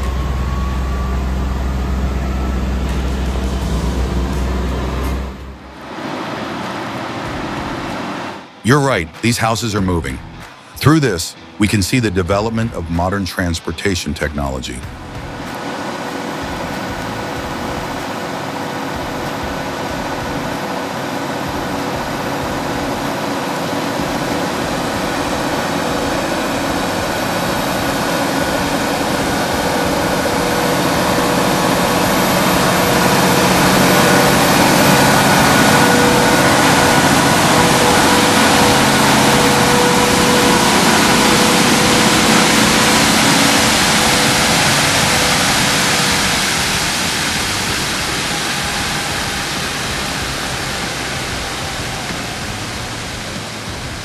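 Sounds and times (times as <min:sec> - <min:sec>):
heavy engine running: 0:00.0 - 0:08.5, 0:14.8 - 0:54.0
faint whine: 0:00.0 - 0:54.0.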